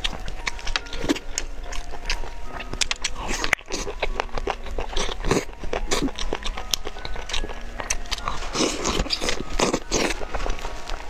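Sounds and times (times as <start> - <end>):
chewing and lip-smacking: 0.0 - 11.0
faint background music: 0.0 - 11.0.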